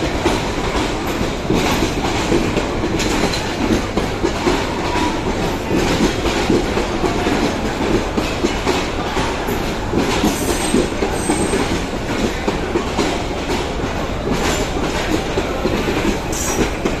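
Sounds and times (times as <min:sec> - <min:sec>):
train rumbling past: 0:00.0 - 0:17.0
wheels clacking over rail joints: 0:00.0 - 0:17.0.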